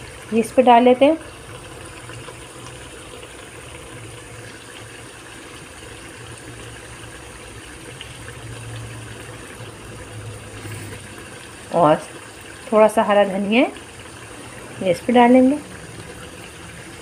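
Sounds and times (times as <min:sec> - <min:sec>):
curry bubbling in a wok: 0:00.0 - 0:17.0.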